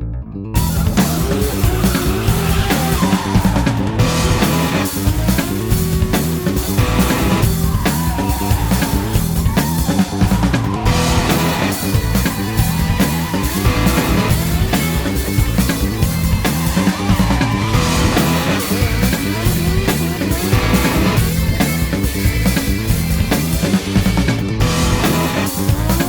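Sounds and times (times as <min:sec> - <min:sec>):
rock music with electric guitar: 0:00.6 - 0:26.0.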